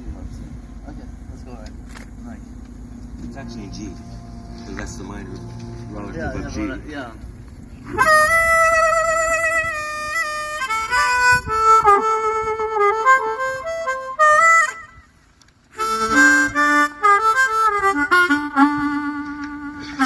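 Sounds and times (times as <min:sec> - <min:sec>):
harmonica melody: 0:03.1 - 0:20.0.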